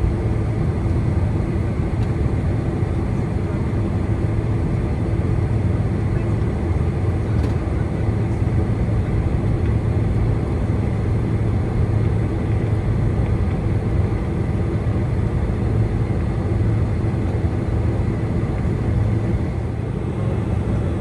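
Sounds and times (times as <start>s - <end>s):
airplane cabin engine hum: 0.0s - 21.0s.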